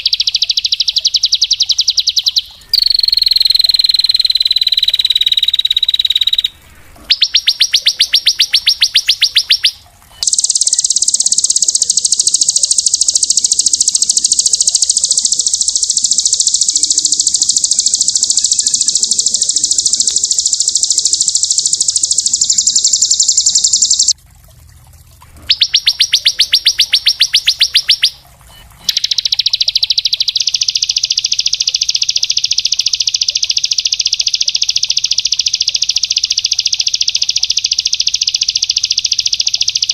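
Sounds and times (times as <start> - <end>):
songbird trilling: 0.0 - 24.2, 25.4 - 39.9.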